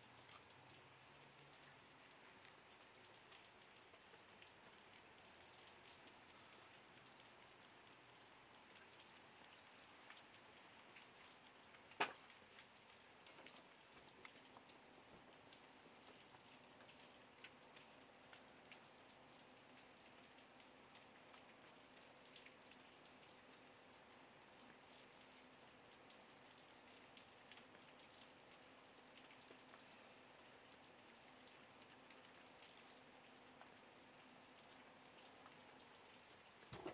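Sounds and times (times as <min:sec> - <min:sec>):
light rain pattering: 0:00.0 - 0:36.9.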